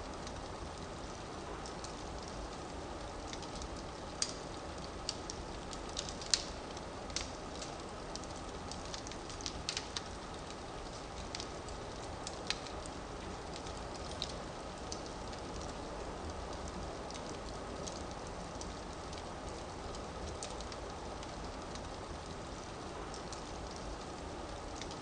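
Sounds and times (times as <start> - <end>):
firewood hissing and crackling: 0.0 - 25.0.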